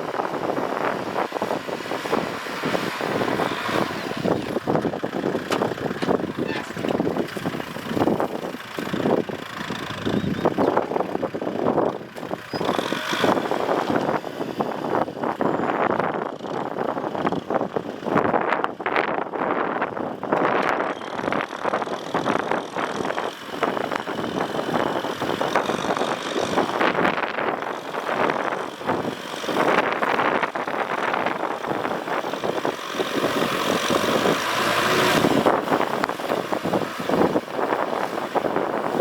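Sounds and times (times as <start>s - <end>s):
tractor engine rumbling: 0.0s - 39.0s.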